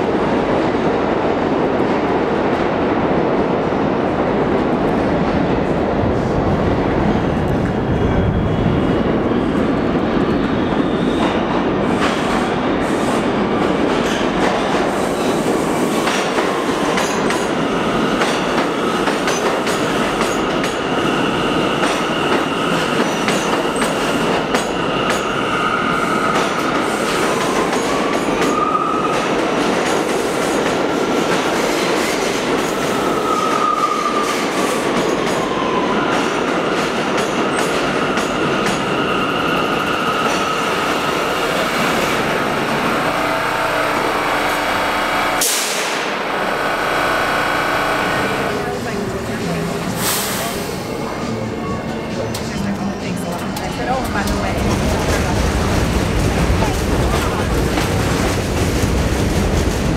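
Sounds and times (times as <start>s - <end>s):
subway train wheels rumbling: 0.0s - 59.9s.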